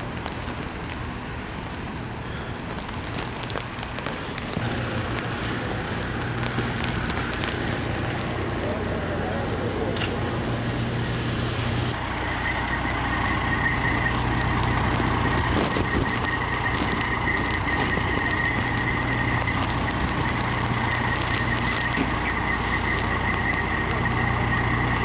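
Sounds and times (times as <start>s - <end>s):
faint crackles: 0.0s - 25.0s
fire engine humming: 0.0s - 25.0s
high whine: 0.0s - 25.0s.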